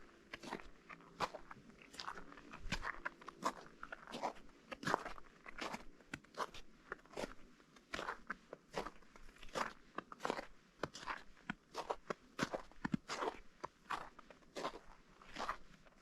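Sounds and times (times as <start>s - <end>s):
footsteps crunching on snow: 0.3s - 15.7s.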